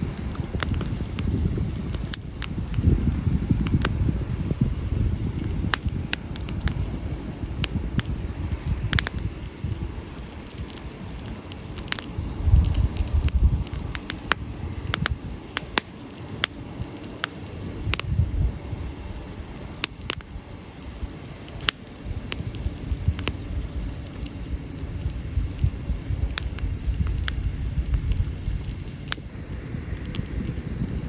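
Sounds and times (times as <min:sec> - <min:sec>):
fire low rumble: 0:00.0 - 0:31.0
wood fire crackling: 0:00.0 - 0:31.0.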